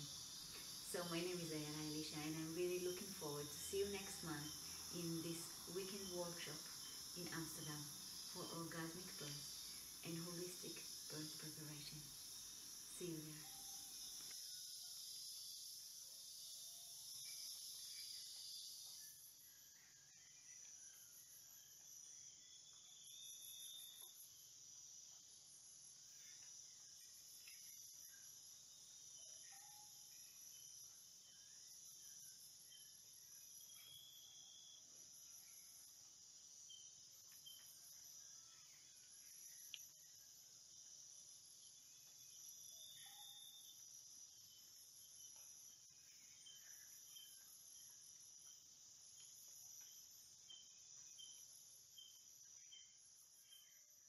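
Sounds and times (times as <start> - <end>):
higher pulsing insect trill: 0.0 - 54.0
insects trilling: 0.0 - 54.0.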